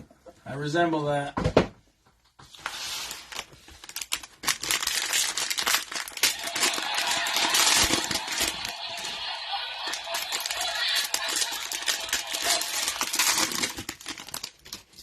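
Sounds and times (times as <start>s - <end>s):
cellophane wrapper crinkling: 2.5s - 15.0s.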